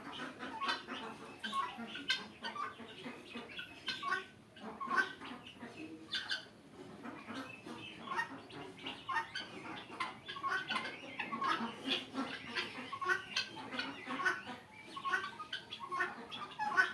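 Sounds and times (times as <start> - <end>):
guineafowl calling: 0.0 - 16.9.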